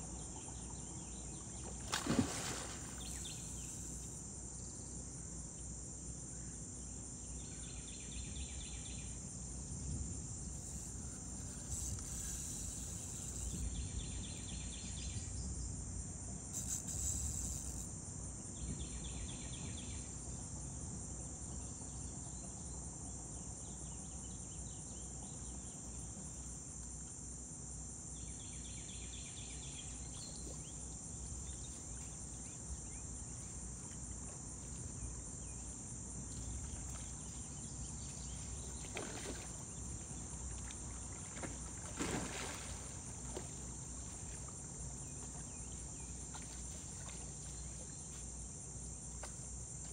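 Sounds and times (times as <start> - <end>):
insects buzzing: 0.0 - 49.9
pulsing insect trills: 0.0 - 49.9.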